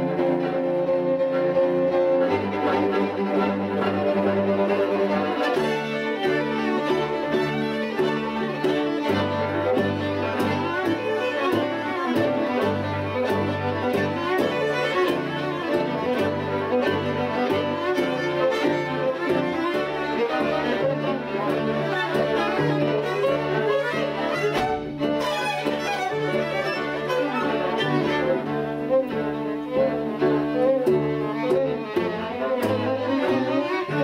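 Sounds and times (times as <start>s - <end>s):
string quartet playing a fiddle tune: 0.0s - 34.0s.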